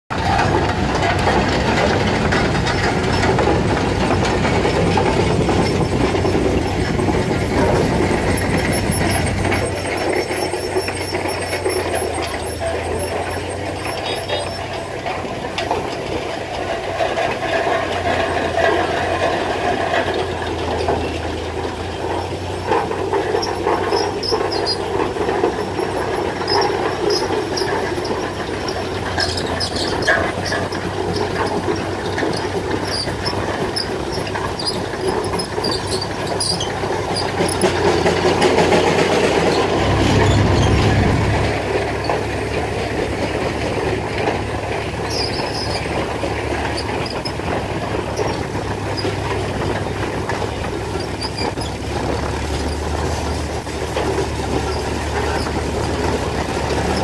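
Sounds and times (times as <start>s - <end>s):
steam traction engines running: 0.1s - 57.0s.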